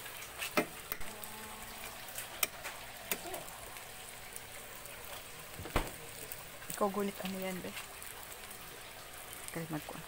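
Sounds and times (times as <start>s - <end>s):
food sizzling in a grill pan: 0.0s - 10.0s.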